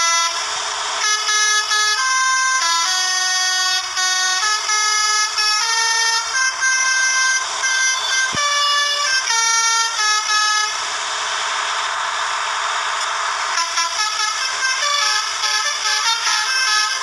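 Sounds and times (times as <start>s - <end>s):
multi-tone air horn melody: 0.0s - 11.4s, 13.5s - 17.0s
loud rushing noise: 0.0s - 17.0s.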